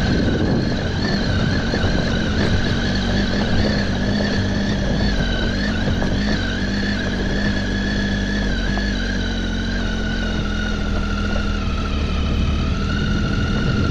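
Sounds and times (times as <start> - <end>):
motorcycle engine running steadily: 0.0 - 13.9.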